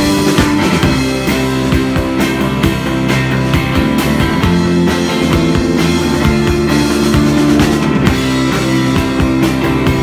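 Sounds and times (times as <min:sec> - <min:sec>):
drum kit beat: 0:00.0 - 0:10.0
electric guitar: 0:00.0 - 0:10.0.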